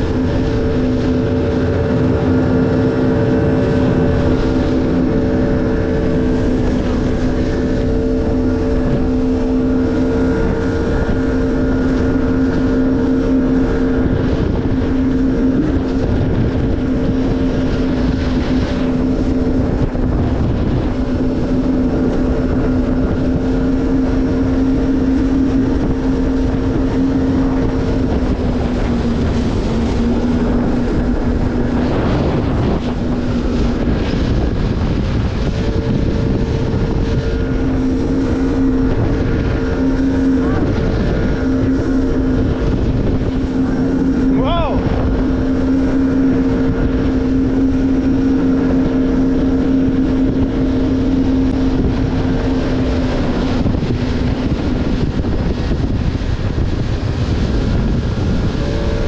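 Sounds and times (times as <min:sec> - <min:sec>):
jet ski engine running: 0:00.0 - 0:59.0
rush of noise: 0:00.0 - 0:59.0.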